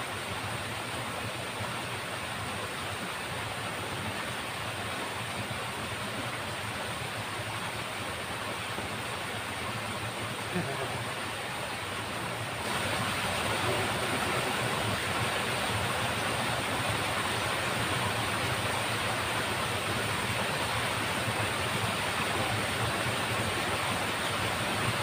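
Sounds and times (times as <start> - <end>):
water rushing along a ditch: 0.0 - 25.0.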